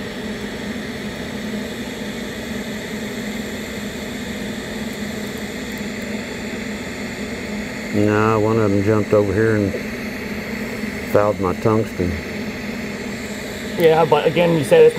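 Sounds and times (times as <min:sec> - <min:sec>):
welding arc hiss and hum: 0:00.0 - 0:14.9.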